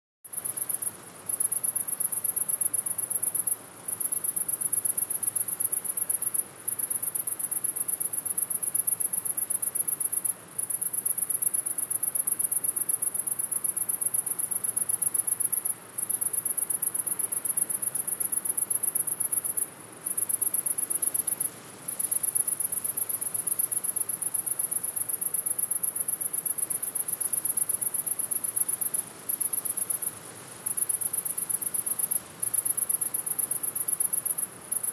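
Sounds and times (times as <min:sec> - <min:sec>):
crickets chirping: 0:00.3 - 0:34.9.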